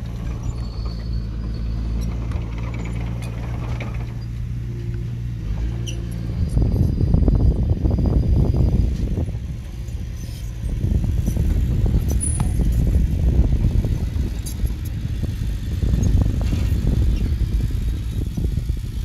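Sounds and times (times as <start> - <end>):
heavy machinery diesel rumble: 0.0 - 19.0.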